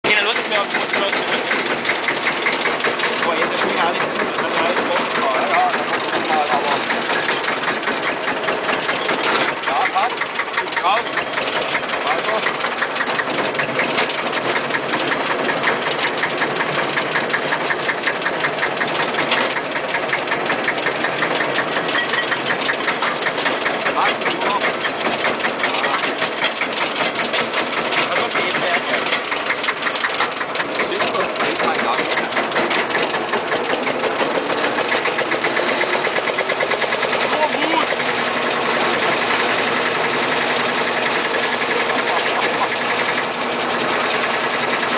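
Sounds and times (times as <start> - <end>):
small rail engine knocking: 0.0 - 44.9.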